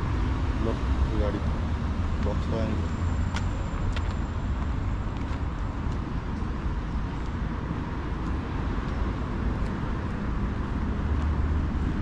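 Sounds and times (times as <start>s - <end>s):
residential street rumble: 0.0s - 12.0s.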